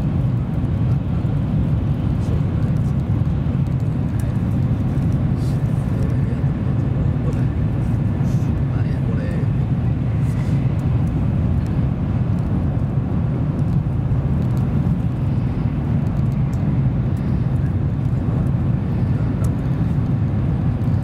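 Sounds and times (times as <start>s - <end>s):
train rumble inside cabin: 0.0s - 21.0s.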